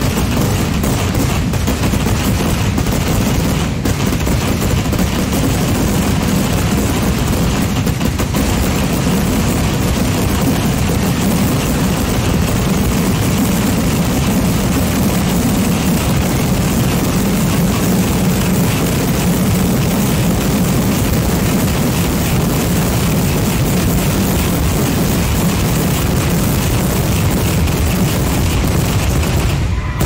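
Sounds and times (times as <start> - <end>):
deep rumble: 0.0 - 30.0
firecrackers roaring continuously: 0.0 - 30.0.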